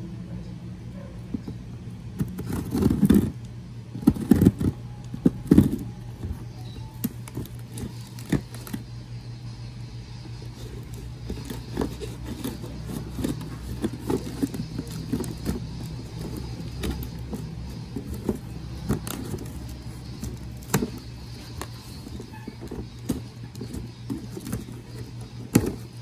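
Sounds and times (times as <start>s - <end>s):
steady low hum: 0.0s - 26.0s
cardboard and tape crinkling: 2.2s - 8.9s, 10.4s - 26.0s.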